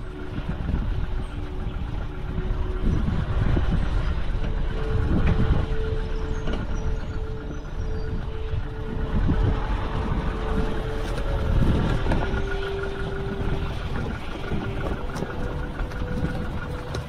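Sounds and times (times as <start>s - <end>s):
motor running with low rumble: 0.0s - 17.0s.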